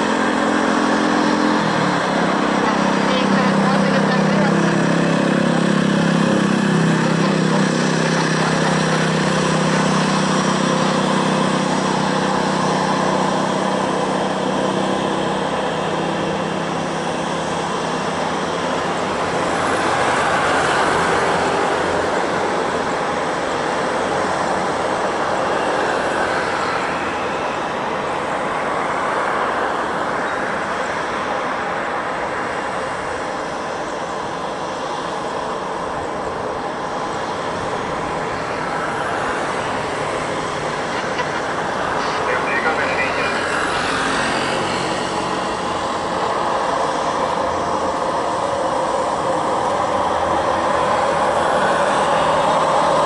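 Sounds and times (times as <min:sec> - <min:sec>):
jet engine roar: 0:00.0 - 0:53.0.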